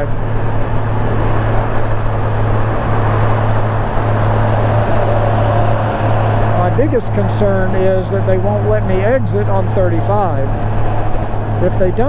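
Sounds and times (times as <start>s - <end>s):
wind noise: 0.0s - 9.8s
motorcycle engine cruising: 0.0s - 12.0s
road noise: 0.0s - 12.0s.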